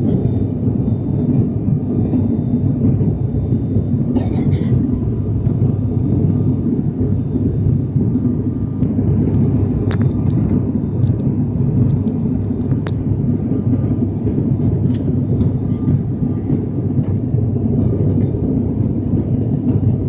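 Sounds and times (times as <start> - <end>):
turboprop engines droning in cabin: 0.0 - 20.0.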